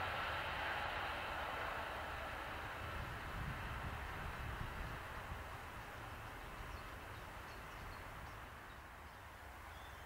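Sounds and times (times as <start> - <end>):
distant train rumbling: 0.0 - 10.0.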